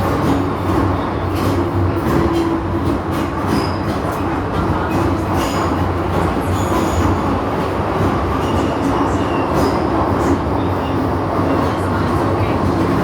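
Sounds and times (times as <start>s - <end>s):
metro train wheels rumbling: 0.0s - 13.0s.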